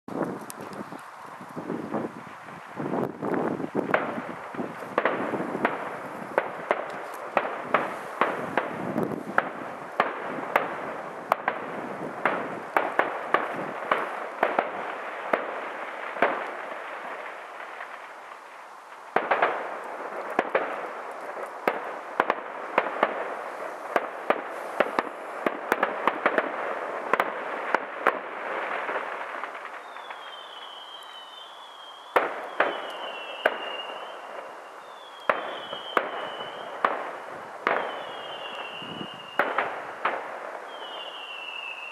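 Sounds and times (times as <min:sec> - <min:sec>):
fireworks bangs and crackle: 0:00.0 - 0:41.9.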